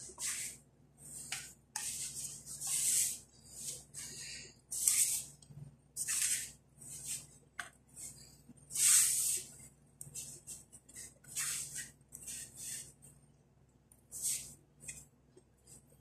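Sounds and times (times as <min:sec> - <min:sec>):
hands kneading dough in a bowl: 0:00.0 - 0:13.2.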